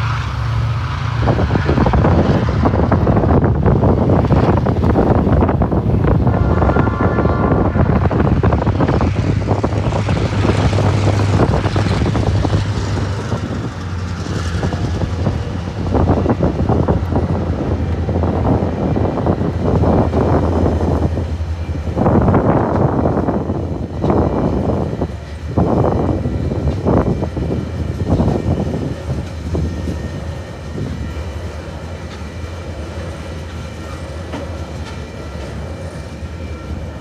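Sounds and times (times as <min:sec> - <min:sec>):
diesel locomotive engines droning: 0:00.0 - 0:37.0
train wheels rumbling and clattering: 0:00.0 - 0:37.0.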